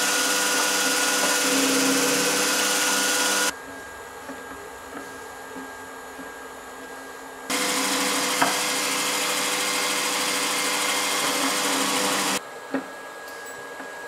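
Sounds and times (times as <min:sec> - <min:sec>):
milling machine spindle whirring: 0:00.0 - 0:12.4.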